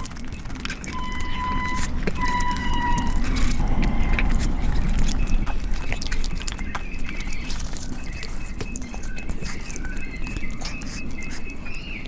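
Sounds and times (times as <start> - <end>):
chewing with wet mouth clicks: 0.0 - 12.0
fingers working food on metal platter: 0.0 - 12.0.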